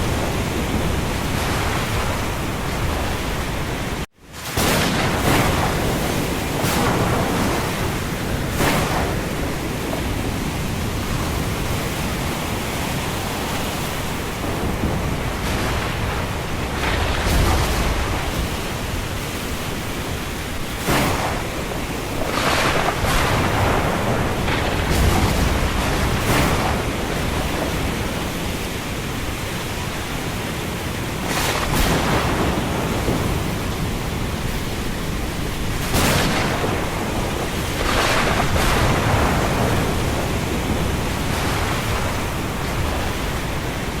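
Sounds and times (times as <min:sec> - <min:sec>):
low thunder rumble: 0:00.0 - 0:30.4, 0:31.0 - 0:44.0
rain: 0:00.0 - 0:44.0
wind: 0:00.0 - 0:44.0.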